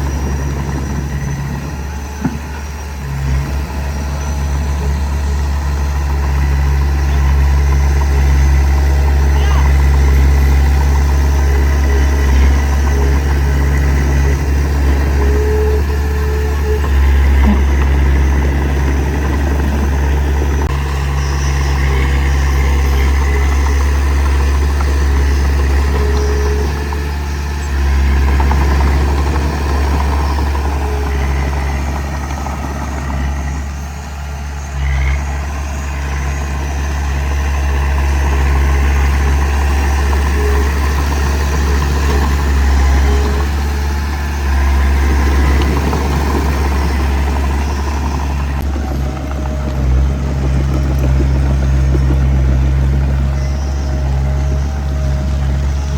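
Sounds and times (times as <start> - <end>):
diesel engine rumbling: 0.0 - 55.9.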